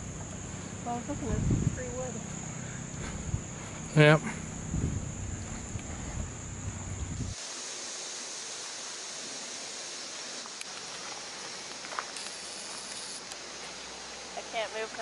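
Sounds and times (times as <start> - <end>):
thin high buzz: 0.0 - 10.8, 11.4 - 14.8
outdoor background hiss: 0.0 - 15.0.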